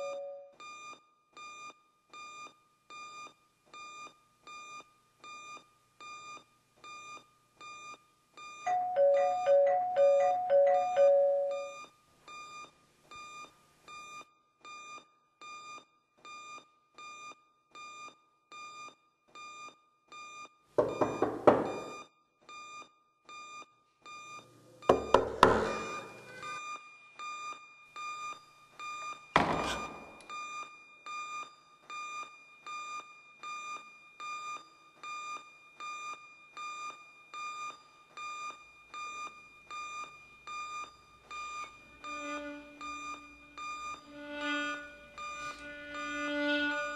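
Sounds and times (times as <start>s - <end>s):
electronic alarm beeping: 0.0s - 3.2s, 3.8s - 15.7s, 16.3s - 46.9s.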